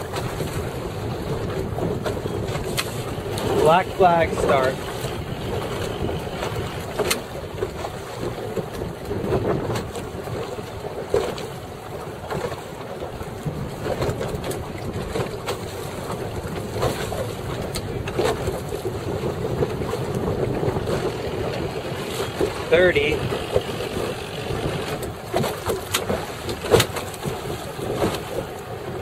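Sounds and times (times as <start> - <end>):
waves slapping boat hull: 0.0 - 29.0
wind buffeting microphone: 0.0 - 29.0.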